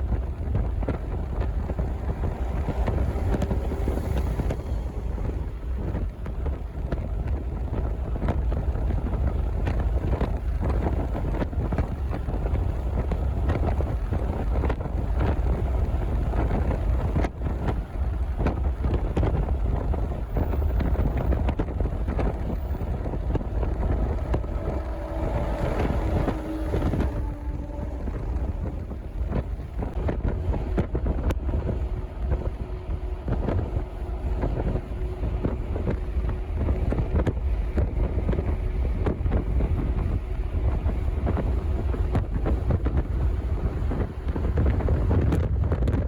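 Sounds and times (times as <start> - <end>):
wind blowing across microphone: 0.0 - 46.0.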